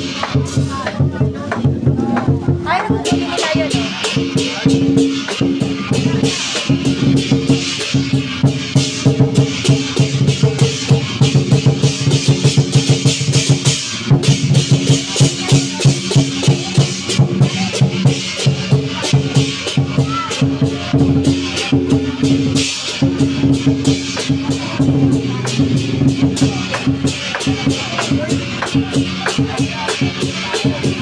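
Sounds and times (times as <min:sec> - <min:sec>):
clashing cymbals: 0:00.0 - 0:31.0
drum beaten in fast rhythm: 0:00.0 - 0:31.0.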